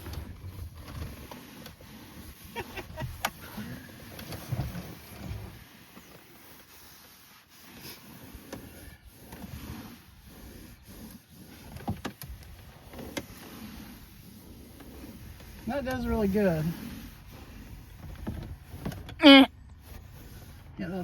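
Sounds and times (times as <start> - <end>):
cloth rubbing and rustling: 0.0 - 21.0.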